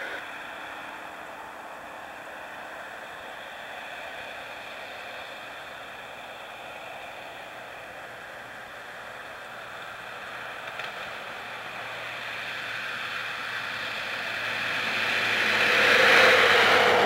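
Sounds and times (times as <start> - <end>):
steady hiss: 0.0 - 17.0
train approaching: 0.0 - 17.0.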